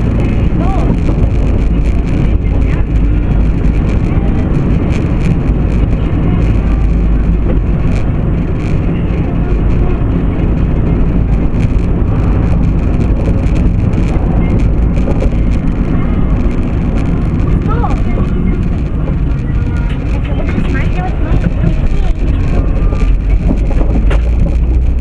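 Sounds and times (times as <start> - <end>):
light clicks and rattles: 0.0 - 25.0
truck engine and road noise: 0.0 - 25.0.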